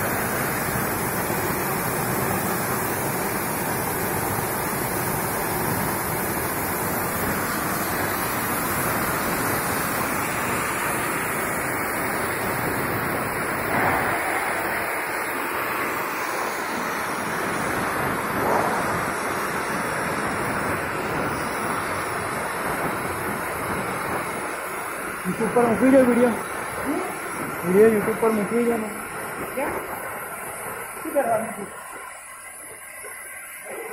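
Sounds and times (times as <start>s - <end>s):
cutting torch hissing: 0.0s - 33.9s.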